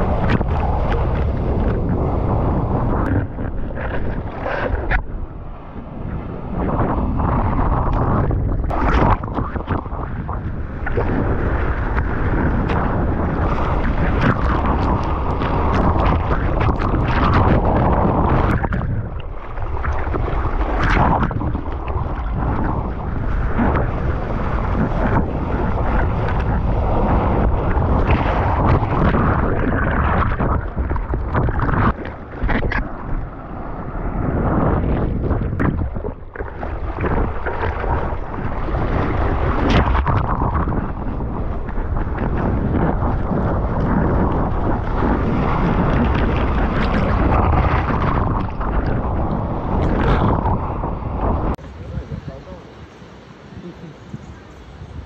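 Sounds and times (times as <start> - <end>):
rushing water: 0.0 - 55.0
water splashes: 0.0 - 55.0
wind buffeting microphone: 0.0 - 55.0.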